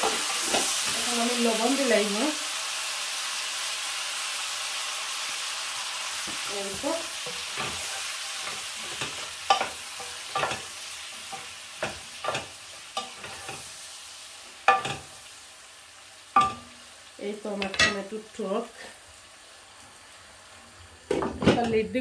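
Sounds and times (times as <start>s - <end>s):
tomatoes sizzling in oil: 0.0s - 22.0s.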